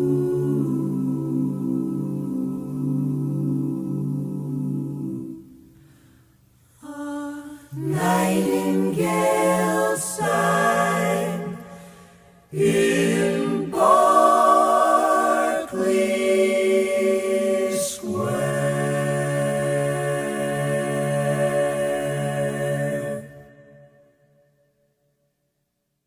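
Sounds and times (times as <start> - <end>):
a cappella vocal group singing: 0.0 - 24.0.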